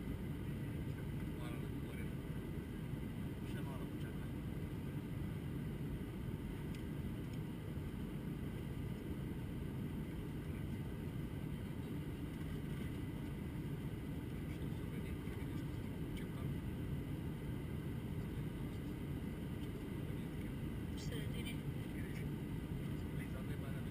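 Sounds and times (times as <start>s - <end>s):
airliner cabin rumble: 0.0s - 23.9s.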